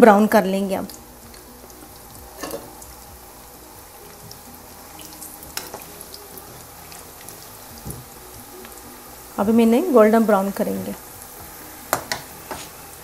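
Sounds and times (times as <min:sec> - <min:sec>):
fries sizzling in hot oil: 0:00.0 - 0:13.0.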